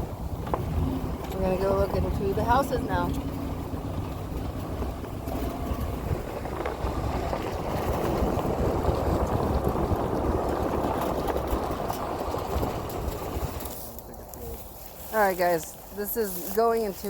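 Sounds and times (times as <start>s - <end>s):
wind on microphone: 0.0s - 13.8s
vehicle driving over rough ground: 0.0s - 17.0s.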